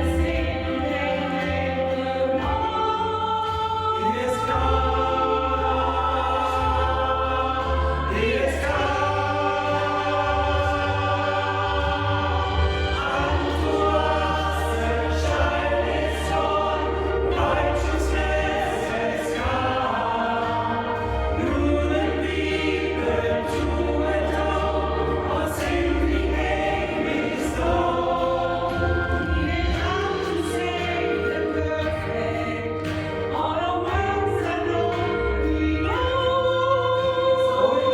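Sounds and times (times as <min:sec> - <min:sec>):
choir singing: 0:00.0 - 0:37.9.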